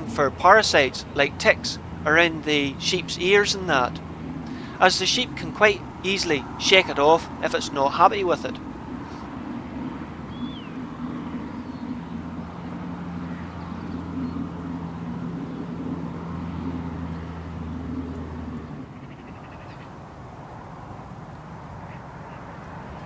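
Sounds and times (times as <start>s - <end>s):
bird chirp: 0.0s - 20.0s
vehicle engine humming: 0.0s - 23.0s.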